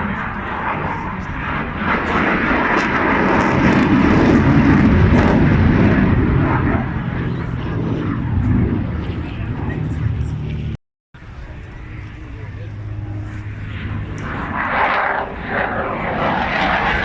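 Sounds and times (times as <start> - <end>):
airplane flying past: 0.0 - 17.0.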